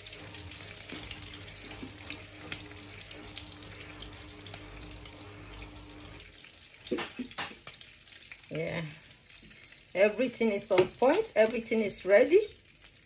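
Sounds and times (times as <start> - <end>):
shrimps sizzling in hot oil: 0.0 - 13.0.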